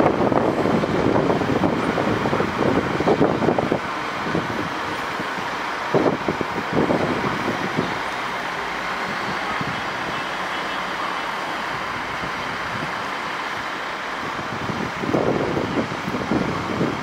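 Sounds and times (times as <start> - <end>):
train rolling past: 0.0 - 16.1
wheels rumbling and hissing: 0.0 - 17.0.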